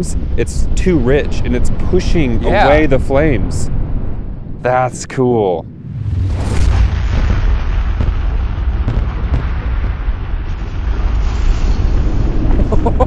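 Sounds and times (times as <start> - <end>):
fireball low rumble: 0.1 - 13.0.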